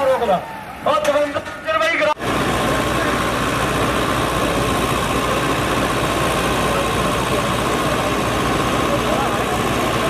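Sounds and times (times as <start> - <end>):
tractor diesel engines running: 0.0 - 10.0.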